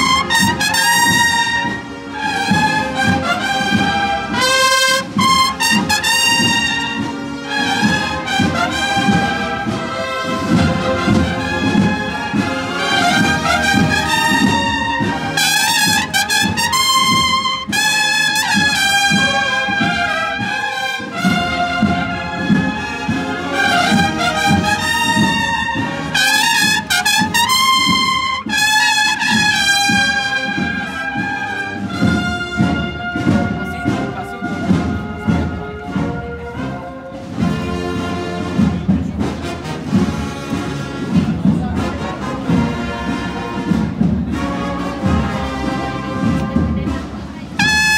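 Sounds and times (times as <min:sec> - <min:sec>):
cornets playing a march melody: 0:00.0 - 0:47.9
drums keeping a steady beat: 0:00.0 - 0:47.9.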